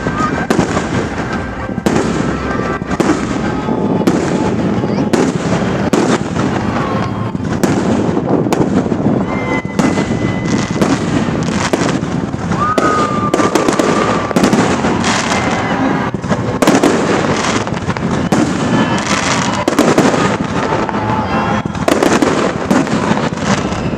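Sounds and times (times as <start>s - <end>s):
fireworks banging and crackling: 0.0s - 23.9s
high firework whistles: 0.0s - 23.9s.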